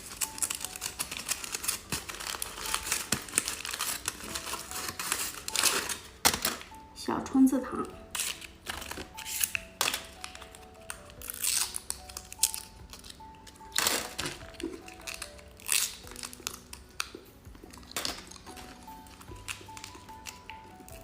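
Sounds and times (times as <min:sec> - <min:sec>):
plastic wrapper crinkling: 0:00.0 - 0:06.9, 0:07.8 - 0:21.0
soft background music: 0:00.0 - 0:21.0.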